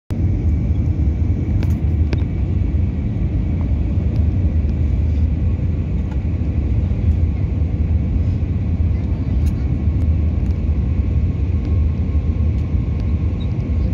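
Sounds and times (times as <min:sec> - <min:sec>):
airliner engine rumble: 0:00.1 - 0:13.9.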